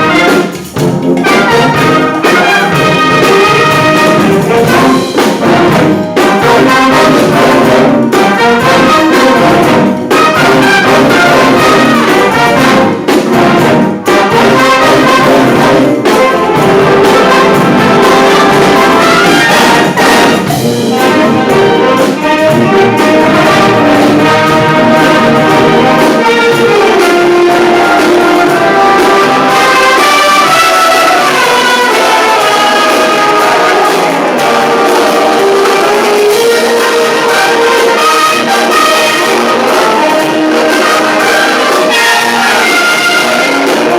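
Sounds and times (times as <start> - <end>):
brass band playing loudly: 0.0 - 43.9.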